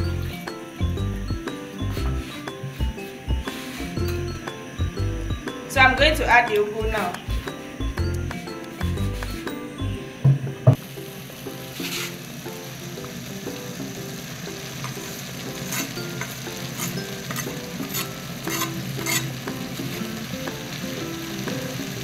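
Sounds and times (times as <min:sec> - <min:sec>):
hot pot hissing: 0:00.0 - 0:22.0.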